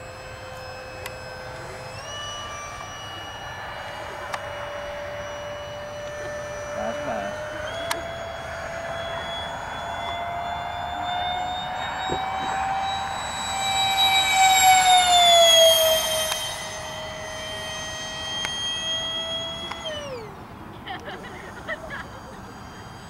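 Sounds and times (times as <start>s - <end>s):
model jet fan whine passing: 0.0s - 23.0s.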